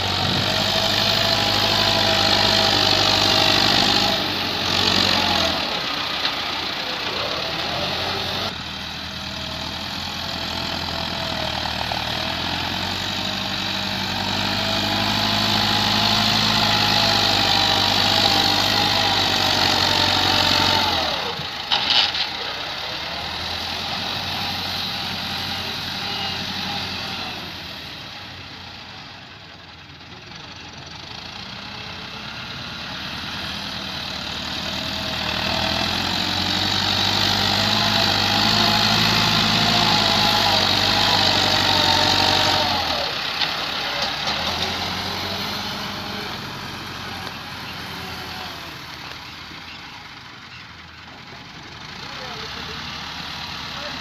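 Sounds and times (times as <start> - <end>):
engine crackle: 0.0 - 32.0, 33.0 - 53.2
tractor diesel engine straining: 0.0 - 54.0.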